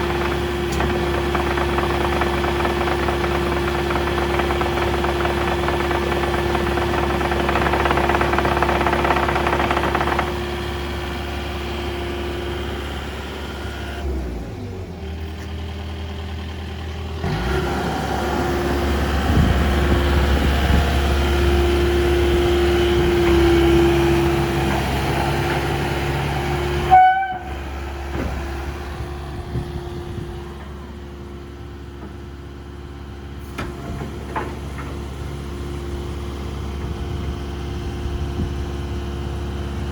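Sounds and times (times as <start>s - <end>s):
excavator engine and hydraulics whining: 0.0s - 39.9s.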